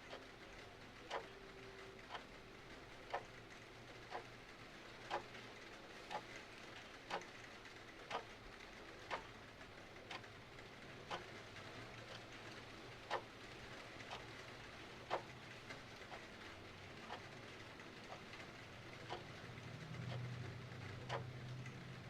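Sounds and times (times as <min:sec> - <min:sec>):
clock ticking: 0:00.0 - 0:05.4, 0:06.0 - 0:08.4, 0:09.0 - 0:09.4, 0:10.0 - 0:10.4, 0:11.0 - 0:22.0.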